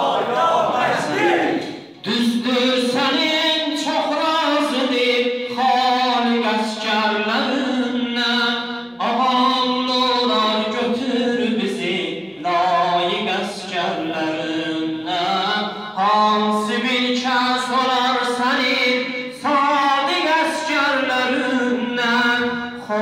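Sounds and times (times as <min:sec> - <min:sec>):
man singing unaccompanied: 0:02.0 - 0:23.0.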